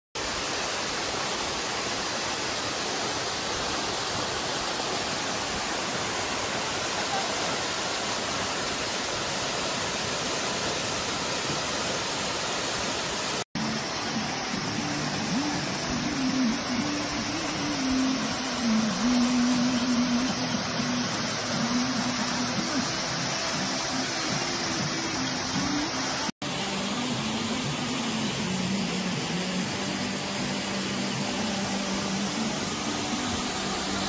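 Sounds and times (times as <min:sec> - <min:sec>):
waterfall rushing: 0:00.2 - 0:34.0.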